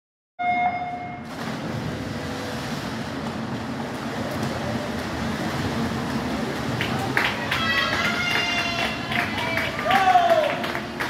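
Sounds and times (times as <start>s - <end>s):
swimmers splashing: 1.2s - 11.0s.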